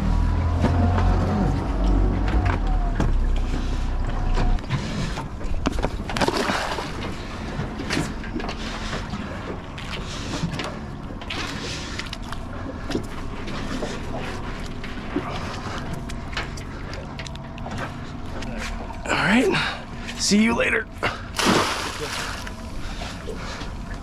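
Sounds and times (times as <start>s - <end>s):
boat engine running low: 0.0s - 24.0s
water noise: 0.0s - 24.0s
wind: 0.0s - 24.0s.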